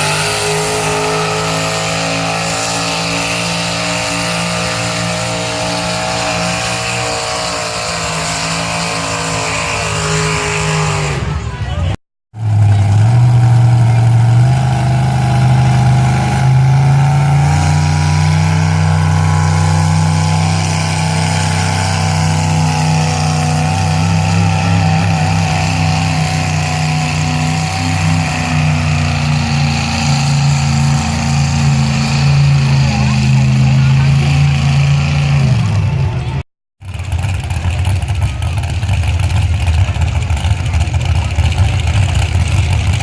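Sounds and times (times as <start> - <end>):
truck engine running loud: 0.0 - 43.0.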